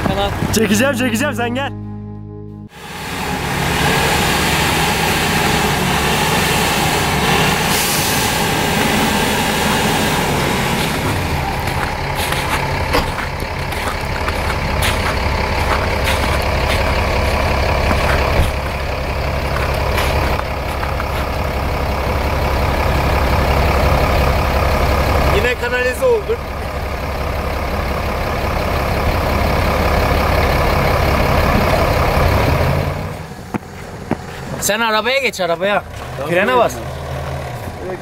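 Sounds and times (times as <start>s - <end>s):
off-road vehicle engine rumble: 0.0s - 1.9s, 2.6s - 38.0s
truck idling: 0.0s - 38.0s.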